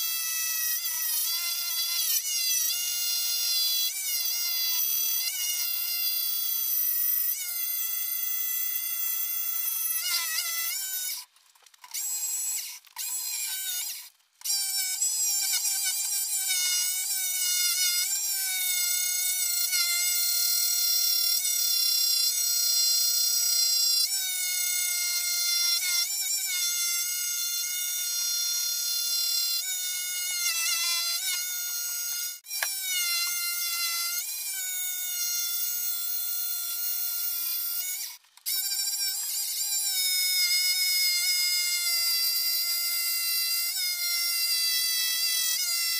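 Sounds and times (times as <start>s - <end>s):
jigsaw cutting wood: 0.0s - 45.9s.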